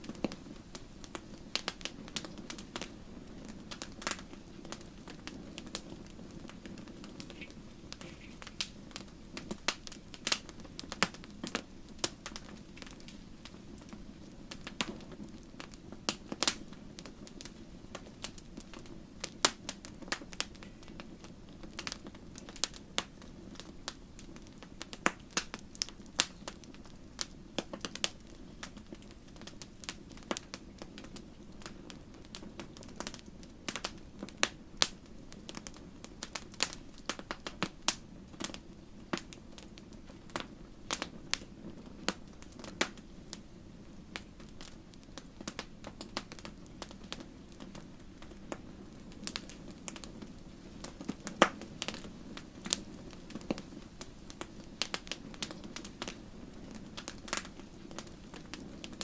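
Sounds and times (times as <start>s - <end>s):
fire pops and snaps: 0.0s - 59.0s
low rumble of burning: 0.0s - 59.0s.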